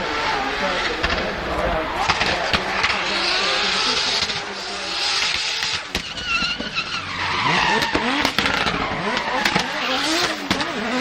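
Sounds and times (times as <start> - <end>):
engine revving: 0.0 - 11.0
tyres screeching: 1.3 - 10.4.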